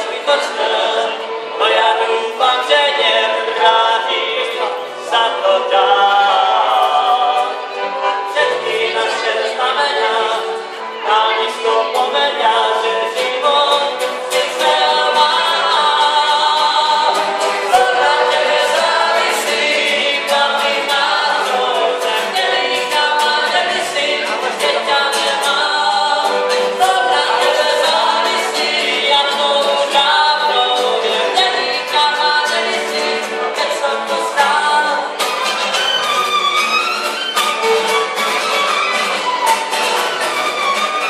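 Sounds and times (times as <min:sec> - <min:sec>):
group singing unaccompanied: 0:00.0 - 0:41.0.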